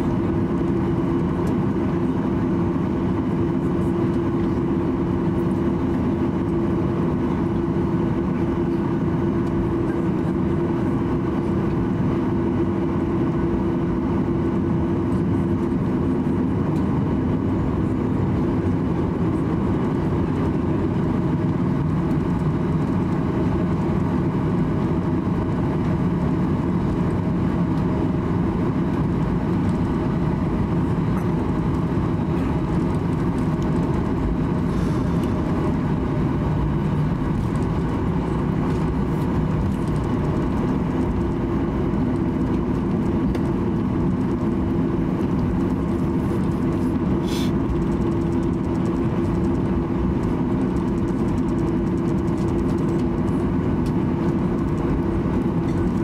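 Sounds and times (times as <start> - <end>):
aircraft engine rumble in cabin: 0.0 - 56.0
steady humming tone: 0.0 - 56.0.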